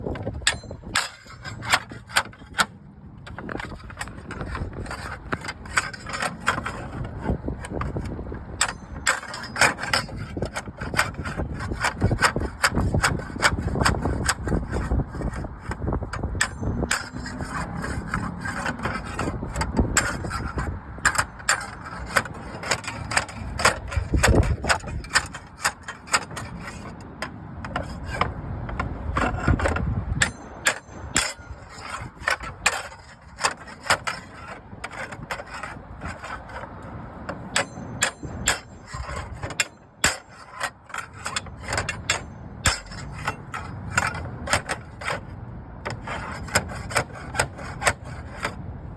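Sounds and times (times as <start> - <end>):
hand tools scraping slate: 0.0 - 48.6
sharp clicks and knocks: 0.0 - 48.6.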